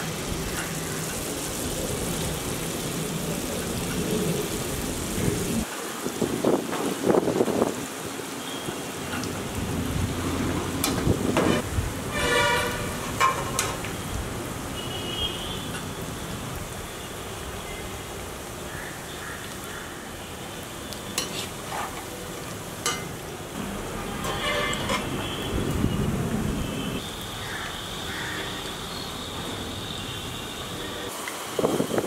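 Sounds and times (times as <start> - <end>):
oil sizzling and bubbling: 0.0 - 32.0.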